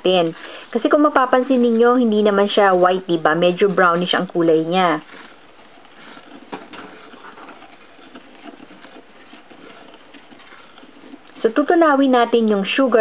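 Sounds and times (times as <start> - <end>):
spatula swishing in bowl: 0.0 - 13.0.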